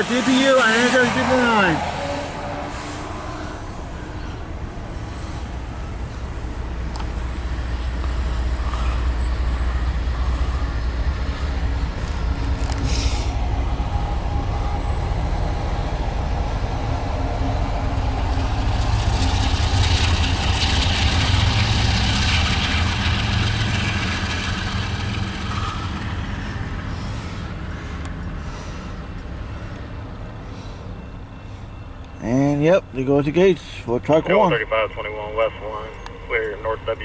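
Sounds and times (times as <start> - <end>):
freight train rumbling past: 0.0 - 32.0, 32.6 - 37.0.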